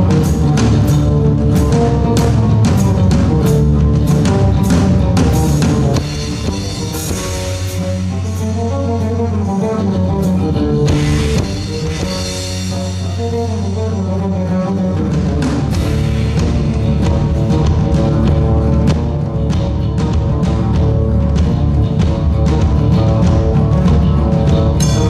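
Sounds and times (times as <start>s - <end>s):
bass drum: 0.0s - 25.0s
live fusion rock band: 0.0s - 25.0s.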